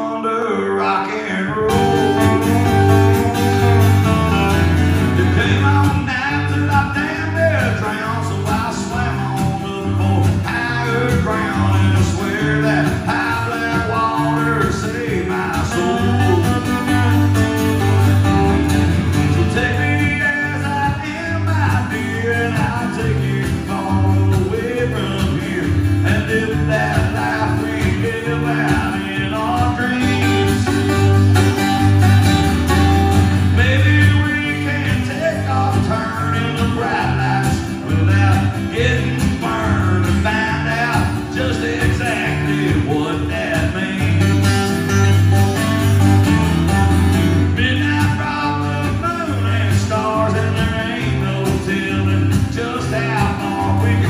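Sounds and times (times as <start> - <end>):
man singing: 0.0 - 17.6, 19.0 - 32.0, 33.3 - 45.2, 47.4 - 54.0
acoustic guitars strummed and picked: 0.0 - 54.0.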